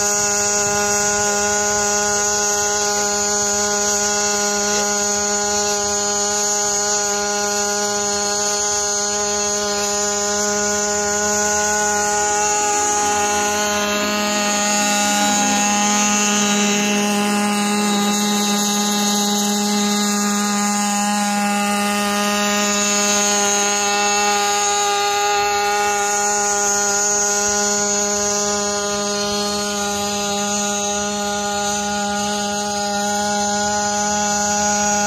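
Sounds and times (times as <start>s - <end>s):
drone buzzing hum: 0.0s - 35.0s.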